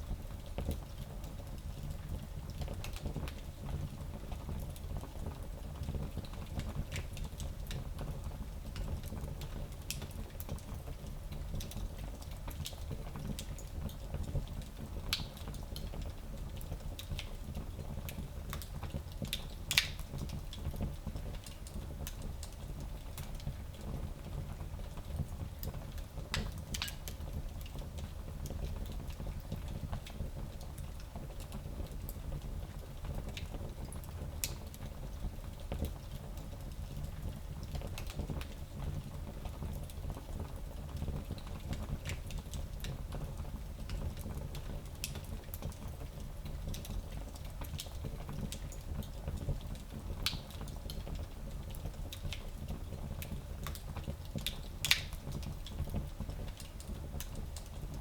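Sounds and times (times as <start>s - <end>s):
wood fire crackling and popping: 0.4s - 58.0s.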